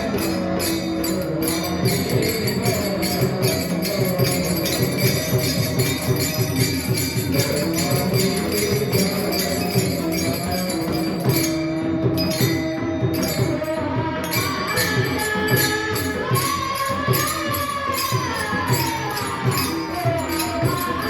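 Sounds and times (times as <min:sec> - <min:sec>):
hand cymbals clashing: 0:00.0 - 0:21.0.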